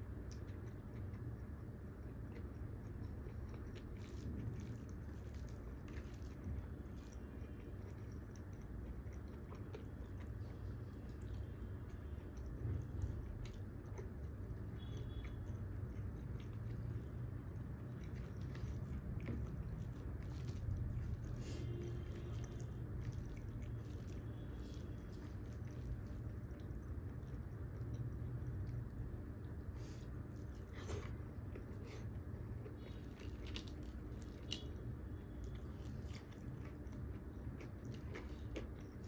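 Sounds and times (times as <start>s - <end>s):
person chewing food: 0.0s - 39.0s
steady low hum: 0.0s - 39.0s.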